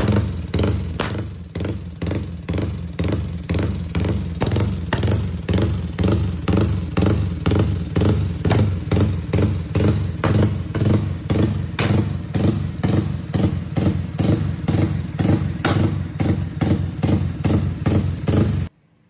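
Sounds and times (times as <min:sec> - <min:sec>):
motorcycle engine revving: 0:00.0 - 0:18.7.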